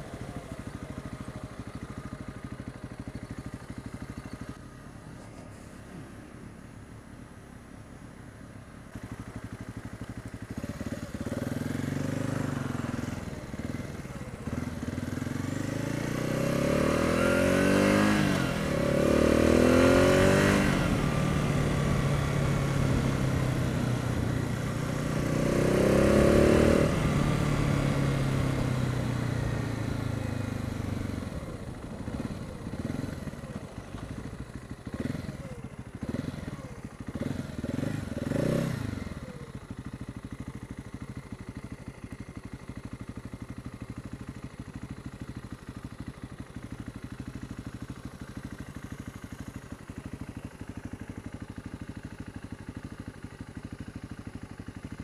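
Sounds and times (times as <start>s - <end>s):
motorcycle engine revving: 0.0s - 5.0s, 8.9s - 55.0s.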